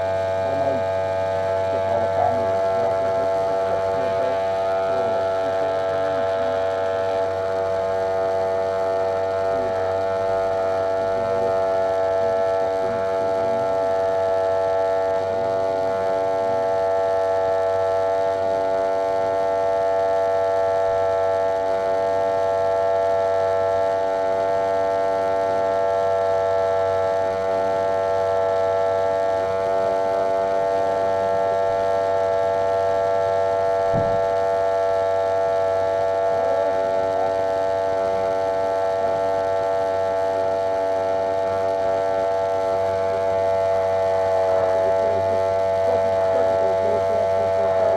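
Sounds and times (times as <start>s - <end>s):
electric hair clipper buzzing: 0.0s - 47.9s.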